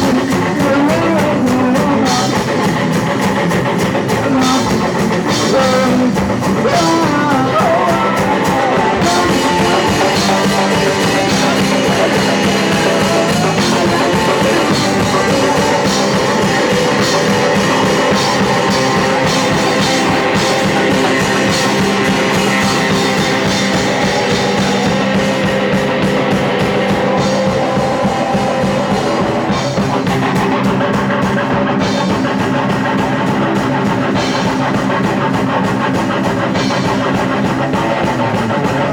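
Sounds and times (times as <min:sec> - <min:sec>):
distorted electric guitar: 0:00.0 - 0:38.9
drum kit: 0:00.0 - 0:38.9.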